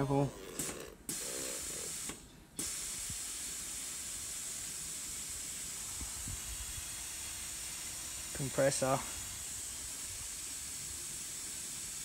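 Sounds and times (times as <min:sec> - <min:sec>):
air hissing out of tyre: 0:00.6 - 0:12.0.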